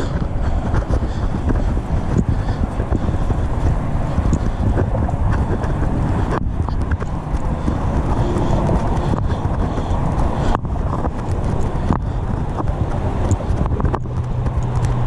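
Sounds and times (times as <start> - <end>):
low steady hum: 0.0 - 15.0
scattered clicks: 0.0 - 15.0
wind buffeting microphone: 0.0 - 15.0.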